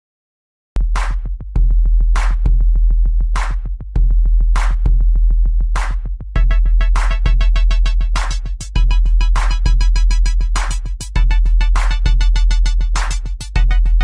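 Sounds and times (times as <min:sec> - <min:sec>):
electronic music with drum-machine beat: 0:00.8 - 0:14.0.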